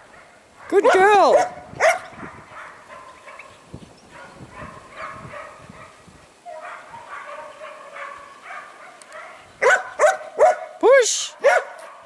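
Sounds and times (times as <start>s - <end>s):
dog barking: 0.0s - 3.5s, 4.1s - 12.0s.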